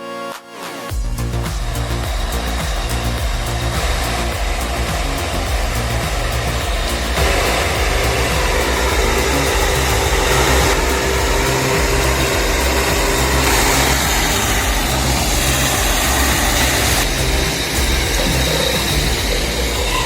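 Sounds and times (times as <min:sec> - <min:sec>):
engine running: 0:00.9 - 0:20.0.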